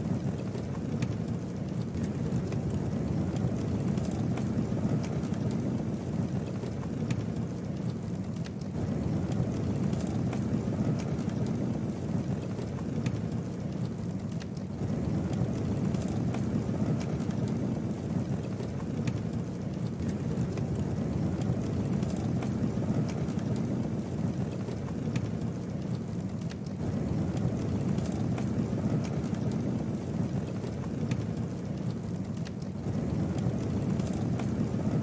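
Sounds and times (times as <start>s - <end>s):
campfire crackling and popping: 0.0s - 35.0s
low fire rumble: 0.0s - 35.0s.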